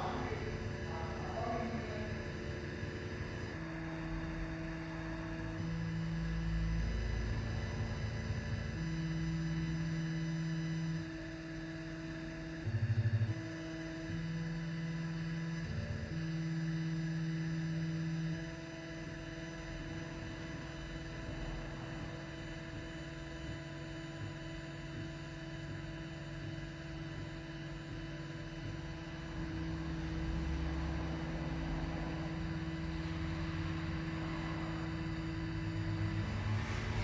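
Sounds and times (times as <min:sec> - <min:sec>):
constant whining tones: 0:00.0 - 0:37.0
laser machine hum: 0:00.0 - 0:37.0.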